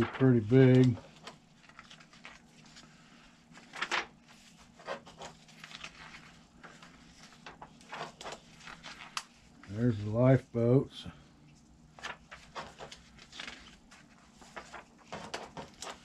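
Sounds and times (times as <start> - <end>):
paper pages rustling: 0.0 - 10.2, 11.5 - 16.0
faint low steady hum: 0.0 - 16.0.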